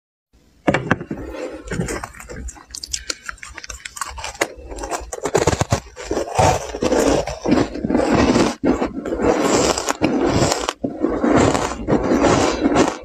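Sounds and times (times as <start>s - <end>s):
ice cube crunching: 1.4s - 13.0s.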